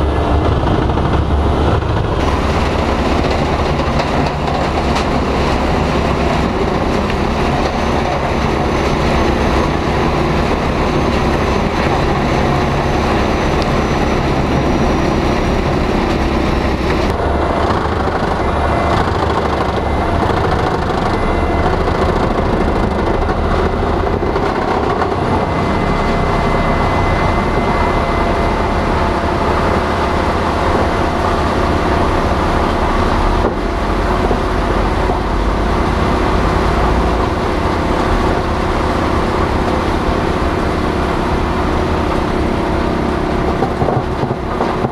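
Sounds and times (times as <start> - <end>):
diesel engine running: 0.0 - 44.9
wood chipper running: 0.0 - 44.9.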